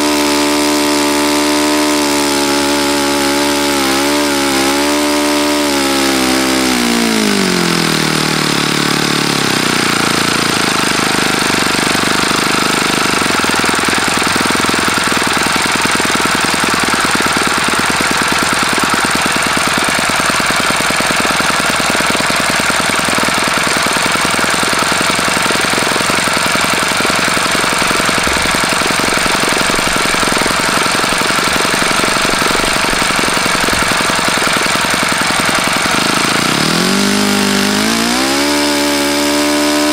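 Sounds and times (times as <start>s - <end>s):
model engine turning propeller: 0.0s - 39.9s.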